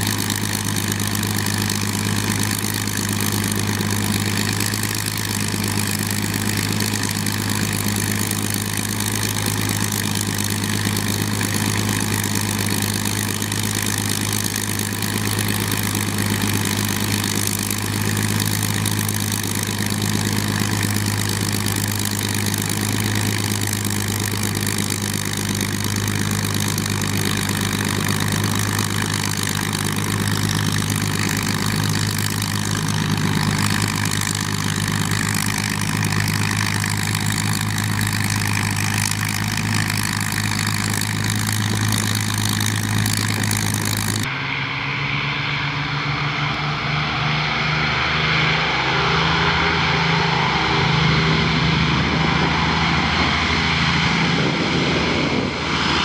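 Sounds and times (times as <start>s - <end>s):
aircraft engines idling: 0.0s - 56.0s.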